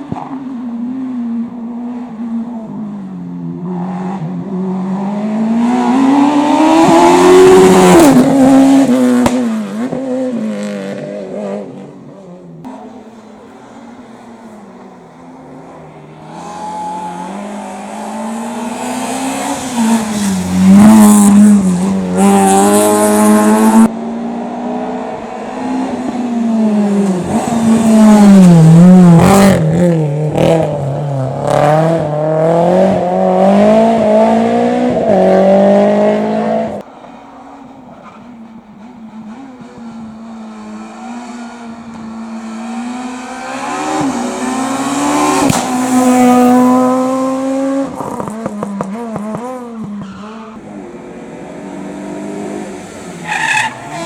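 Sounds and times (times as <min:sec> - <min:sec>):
race car engine revving: 0:03.6 - 0:11.8, 0:15.4 - 0:36.9, 0:38.0 - 0:54.0.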